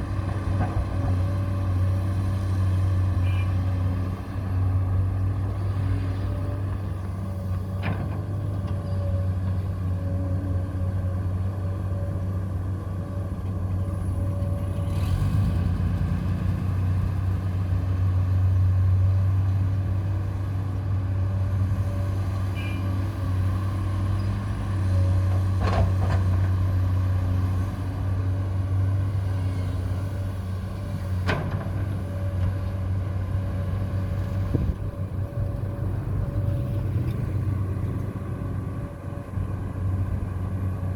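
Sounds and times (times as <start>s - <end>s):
construction vehicle motor running: 0.0s - 40.9s.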